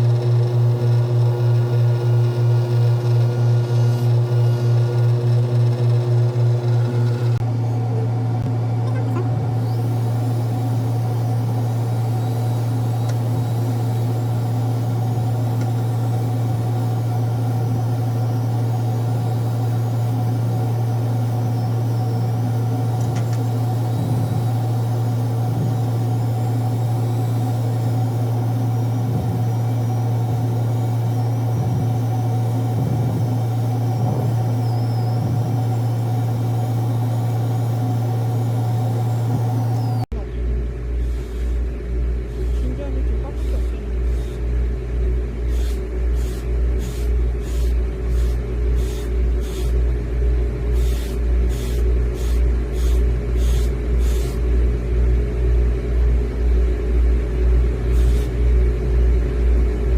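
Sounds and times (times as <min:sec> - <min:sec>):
electric machine humming: 0:00.0 - 0:59.9.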